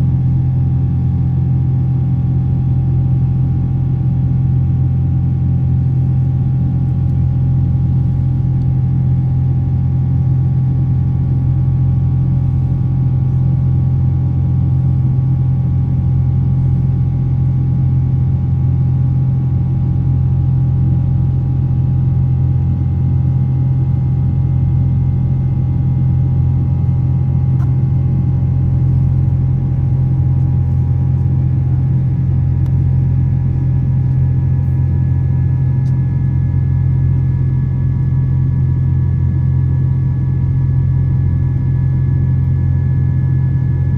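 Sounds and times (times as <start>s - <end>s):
jet engines drone in cabin: 0.0s - 43.9s.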